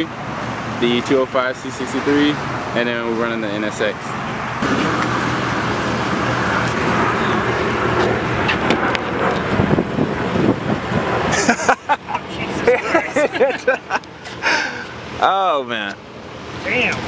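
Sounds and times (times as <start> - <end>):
car engine running: 0.0 - 17.0
traffic noise: 0.0 - 17.0.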